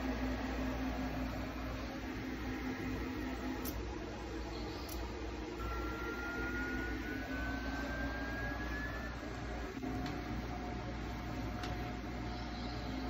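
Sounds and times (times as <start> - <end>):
stepper motors whining: 2.1 - 13.0.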